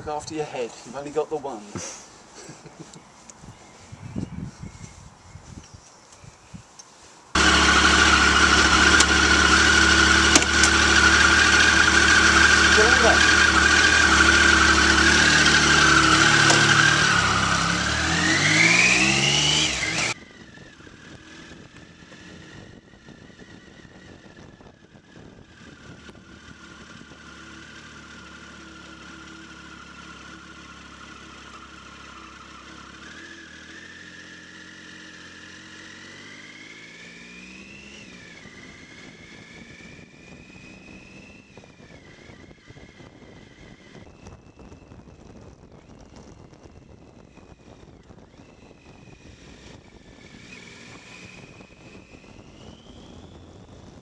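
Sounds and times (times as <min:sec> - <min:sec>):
motorcycle engine revving: 0:07.4 - 0:44.5, 0:45.2 - 0:54.0.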